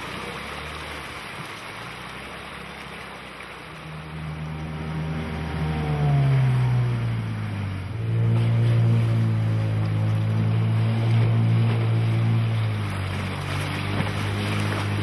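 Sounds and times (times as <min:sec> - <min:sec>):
outboard motor running: 0:00.0 - 0:15.0
rushing water: 0:00.0 - 0:15.0.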